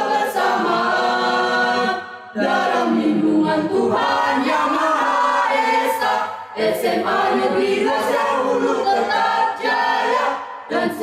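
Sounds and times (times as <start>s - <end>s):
youth choir singing a cappella: 0.0s - 11.0s.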